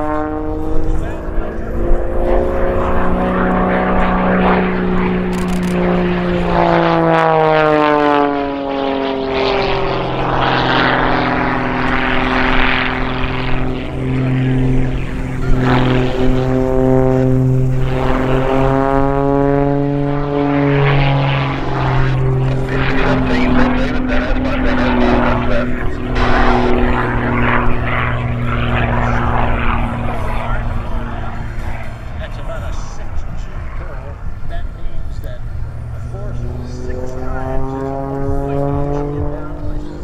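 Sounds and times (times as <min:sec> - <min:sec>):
biplane engine and propeller: 0:00.0 - 0:40.0.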